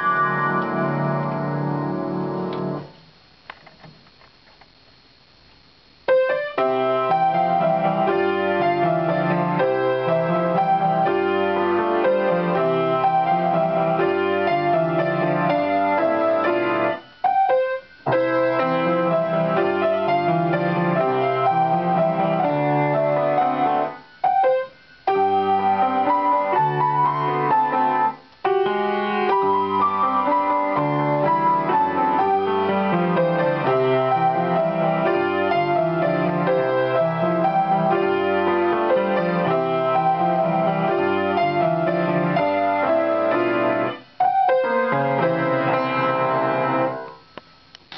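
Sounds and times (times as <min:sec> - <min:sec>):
piano duet waltz: 0:00.0 - 0:02.9, 0:06.1 - 0:47.2.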